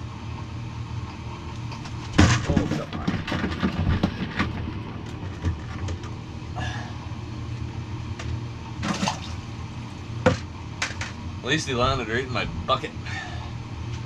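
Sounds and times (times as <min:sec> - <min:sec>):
heater humming: 0:00.0 - 0:14.0.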